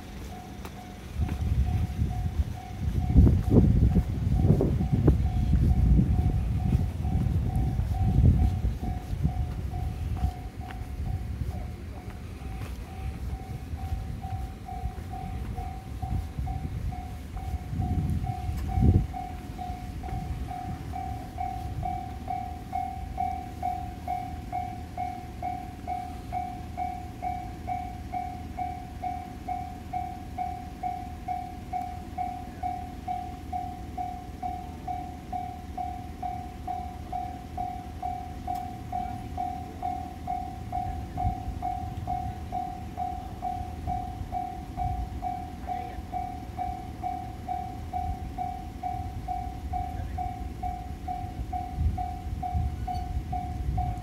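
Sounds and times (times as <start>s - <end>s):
level crossing bell ringing: 0.0s - 54.0s.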